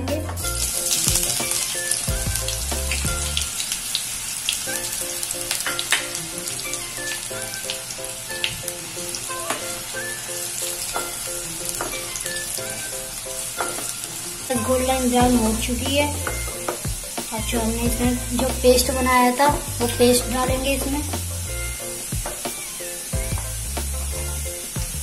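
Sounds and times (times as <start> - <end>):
onions sizzling in oil: 0.4 - 25.0.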